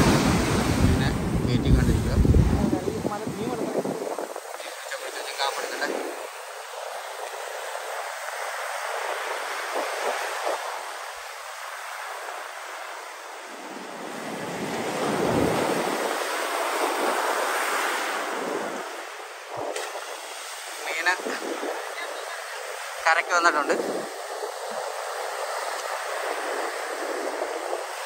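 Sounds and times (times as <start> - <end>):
surf breaking on a beach: 0.0 - 28.0
wind on microphone: 0.0 - 28.0.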